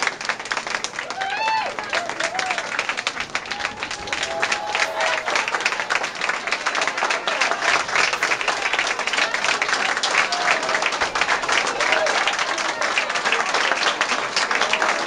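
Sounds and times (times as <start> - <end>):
crowd clapping: 0.0 - 15.0.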